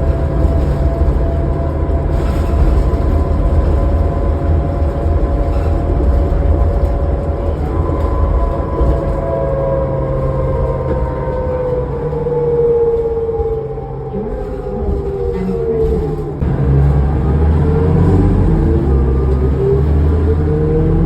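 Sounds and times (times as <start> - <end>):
bus engine and road rumble: 0.0 - 21.0
high howling whine: 0.0 - 21.0.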